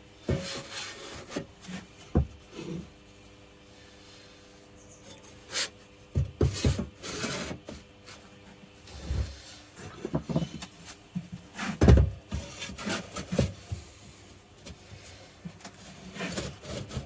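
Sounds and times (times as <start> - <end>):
faint steady hum: 0.0 - 17.0
knocks and scraping of workshop parts: 0.2 - 3.0, 5.0 - 14.0, 14.6 - 17.0.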